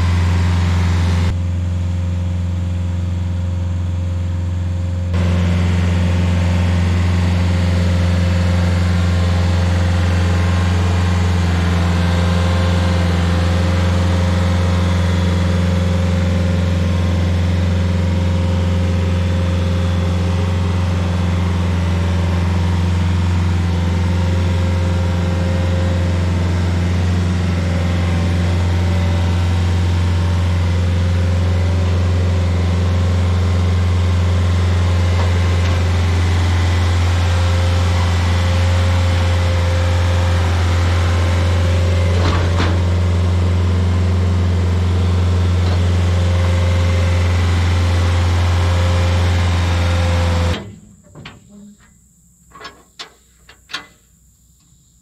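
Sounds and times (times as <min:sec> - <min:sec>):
stump grinder engine running: 0:00.0 - 0:51.0.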